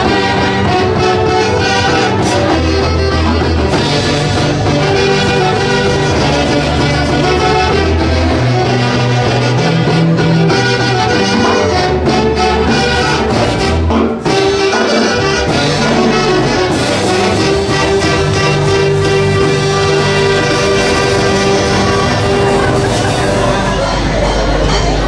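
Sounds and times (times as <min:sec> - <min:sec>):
folk orchestra playing: 0:00.0 - 0:25.0
steady bass: 0:00.0 - 0:25.0
wind instruments holding melody: 0:00.0 - 0:25.0.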